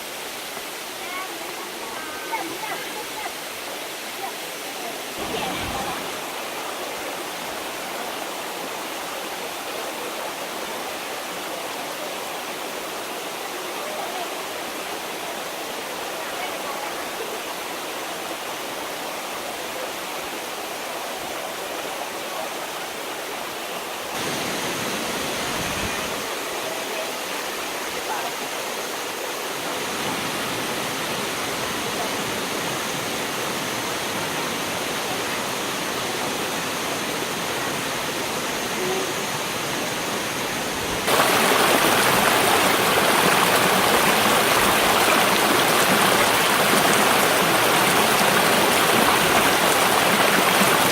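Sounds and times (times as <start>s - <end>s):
waterfall rushing over rocks: 0.0s - 50.9s.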